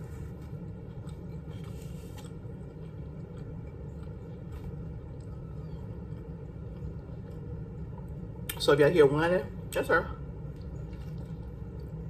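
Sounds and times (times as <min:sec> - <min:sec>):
person chewing food: 0:00.0 - 0:08.6, 0:10.4 - 0:12.0
low background rumble: 0:00.0 - 0:12.0.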